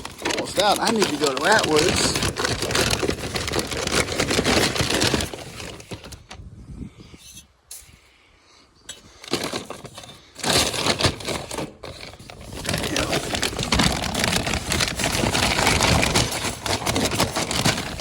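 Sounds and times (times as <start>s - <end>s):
grain rattling in feed bag: 0.0s - 6.3s, 9.2s - 18.0s.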